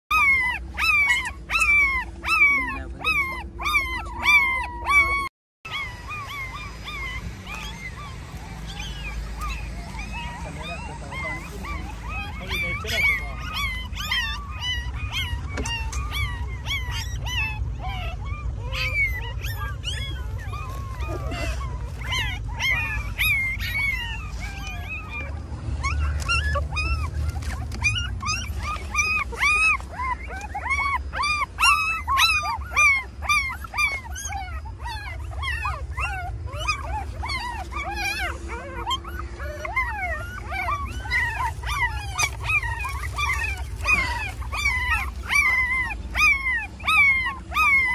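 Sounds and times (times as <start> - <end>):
puppies whimpering and crying: 0.1 - 47.9.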